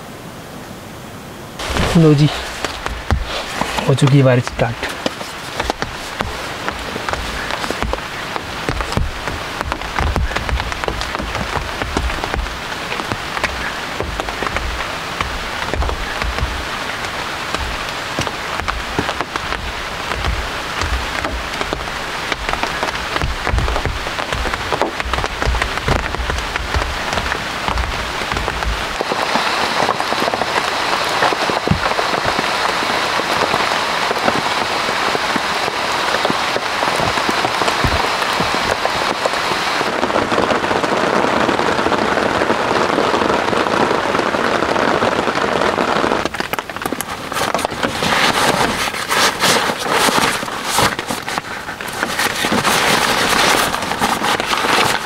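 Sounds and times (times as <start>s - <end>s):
rain on tent: 0.0s - 55.0s
rain jacket rustling: 1.6s - 39.9s, 46.2s - 55.0s.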